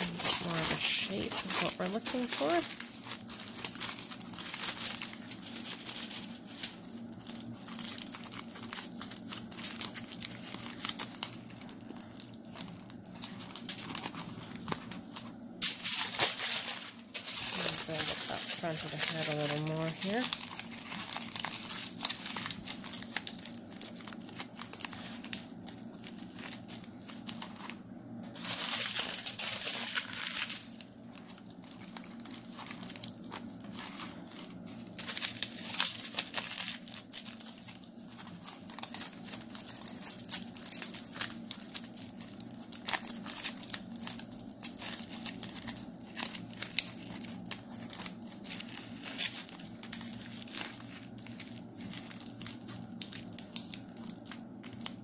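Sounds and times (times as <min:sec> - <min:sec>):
foil crinkling: 0:00.0 - 0:55.0.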